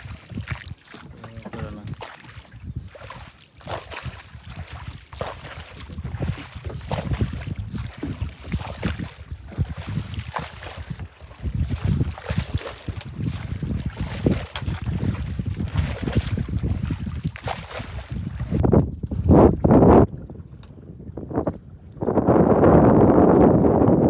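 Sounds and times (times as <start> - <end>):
water splashes and knocks: 0.0 - 20.8
wind rumbling on microphone: 0.0 - 24.0.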